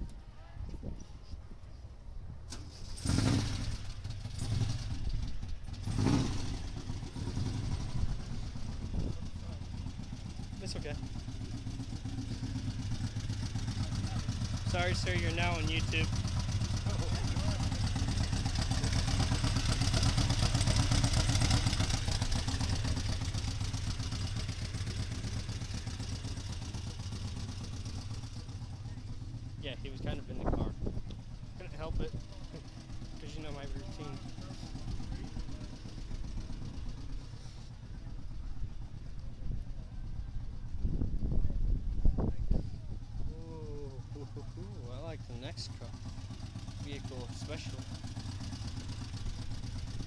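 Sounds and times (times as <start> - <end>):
car engine starting and rumbling: 2.3 - 50.0.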